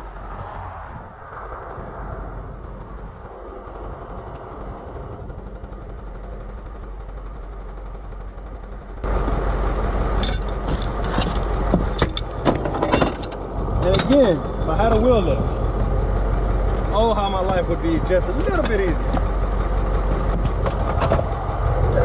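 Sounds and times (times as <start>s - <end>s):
low hum: 0.0s - 22.0s
truck engine running: 0.0s - 22.0s.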